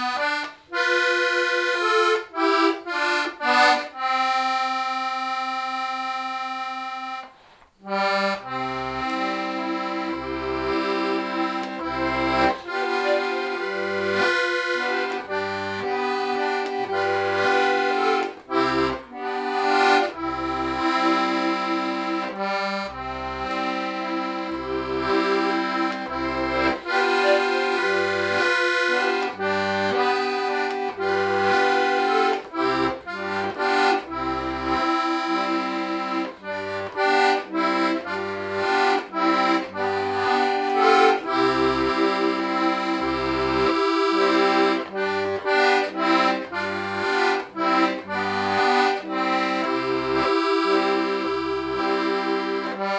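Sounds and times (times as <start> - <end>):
button accordion playing folk tune: 0.0 - 52.9.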